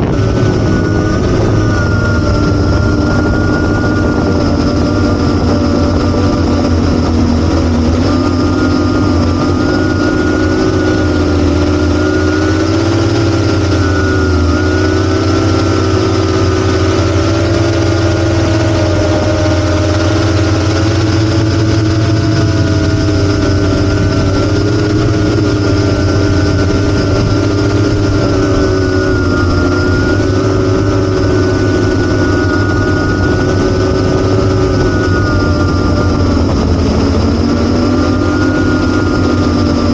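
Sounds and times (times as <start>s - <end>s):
quadcopter buzzing whine: 0.0s - 39.9s.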